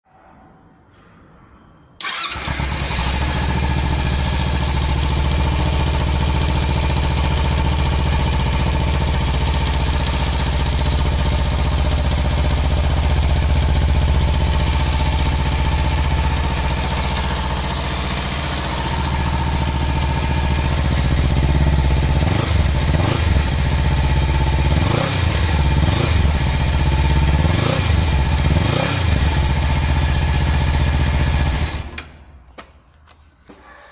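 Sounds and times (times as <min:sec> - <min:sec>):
motorcycle engine idling and revving: 0:02.0 - 0:32.2.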